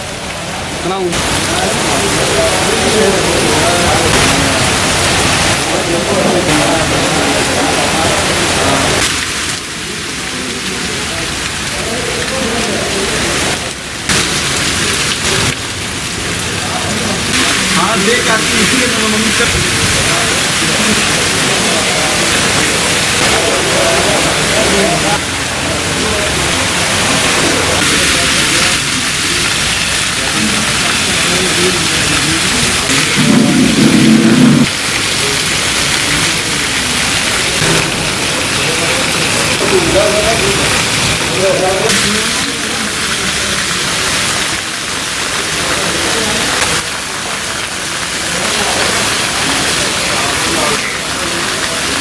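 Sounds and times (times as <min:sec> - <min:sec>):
rain falling: 0:00.0 - 0:52.0
water pouring and splashing: 0:00.0 - 0:52.0.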